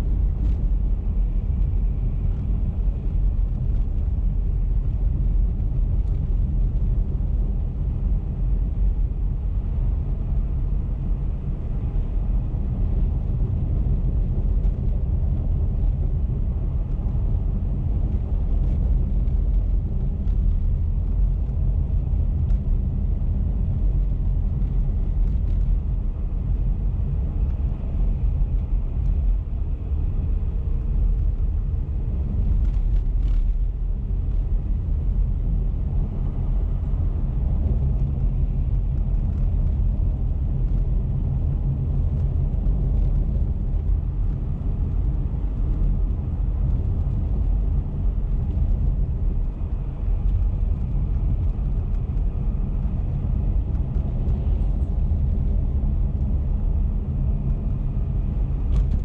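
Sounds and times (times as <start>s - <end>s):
car driving on highway: 0.0s - 59.0s.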